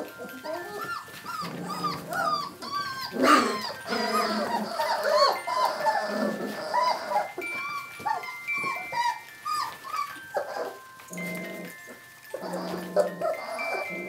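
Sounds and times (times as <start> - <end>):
music box notes: 0.0 - 14.0
puppies whining and yelping: 0.0 - 14.0.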